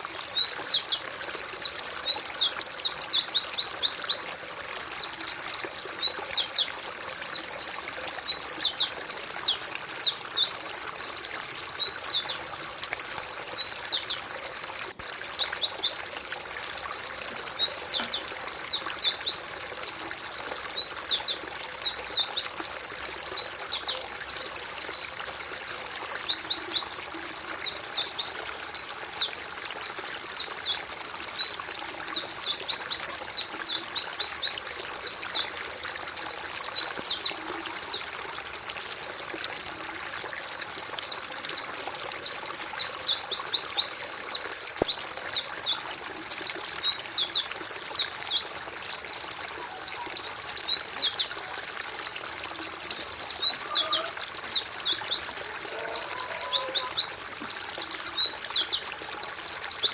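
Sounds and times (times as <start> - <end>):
birds chirping: 0.0 - 59.9
running water trickling: 0.0 - 59.9.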